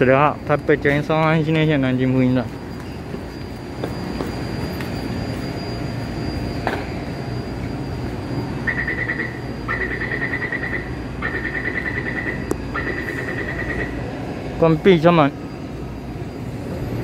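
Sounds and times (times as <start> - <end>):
high pulsing warning beeps: 0.0 - 17.0
standing train rumble: 0.0 - 17.0.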